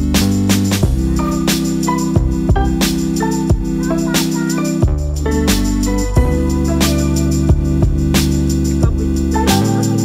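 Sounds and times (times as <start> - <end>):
held bass notes: 0.0 - 10.0
steady drum beat: 0.0 - 10.0
melody: 0.8 - 10.0.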